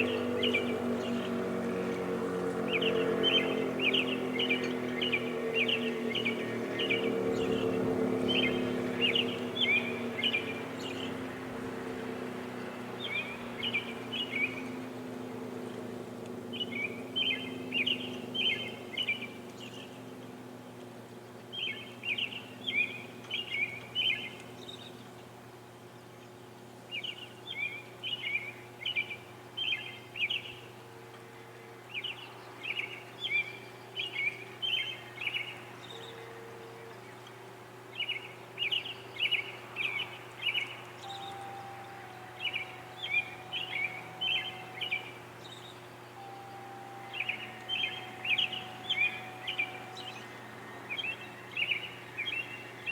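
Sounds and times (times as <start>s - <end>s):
faint steady hum: 0.0s - 52.9s
songbird singing: 0.0s - 52.9s.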